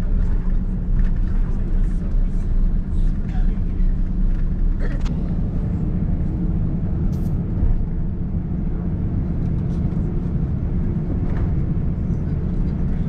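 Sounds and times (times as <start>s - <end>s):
aircraft engines idling: 0.0s - 13.0s
wheels rolling on taxiway: 0.0s - 13.0s.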